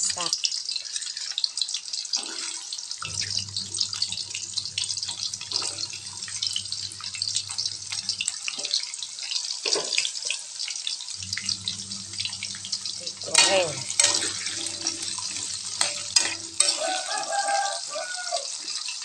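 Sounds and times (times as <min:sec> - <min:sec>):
deep-frying sizzle in hot oil: 0:00.0 - 0:19.0.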